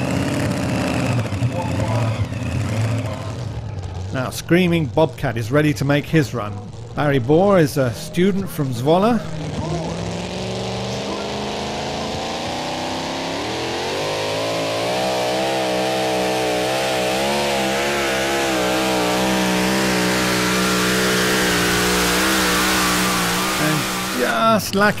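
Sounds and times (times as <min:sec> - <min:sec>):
tractor engine at full throttle: 0:00.0 - 0:25.0.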